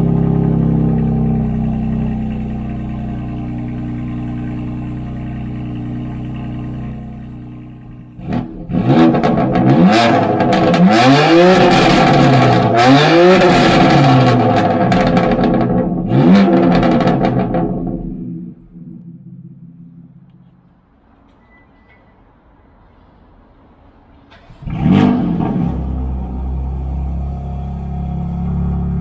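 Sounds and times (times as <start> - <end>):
car engine revving: 0.0 - 20.4, 24.4 - 29.0.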